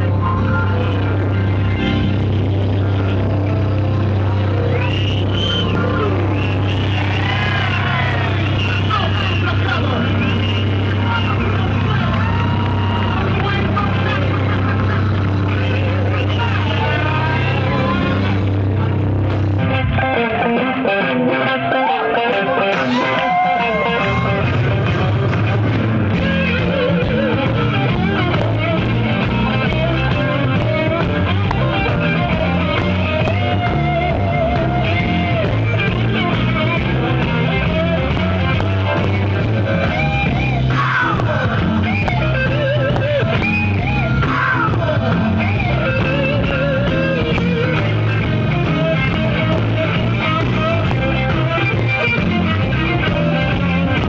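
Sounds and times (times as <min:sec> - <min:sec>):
bent electric guitar lead notes: 0:00.0 - 0:54.0
electric blues band playing: 0:00.0 - 0:54.0.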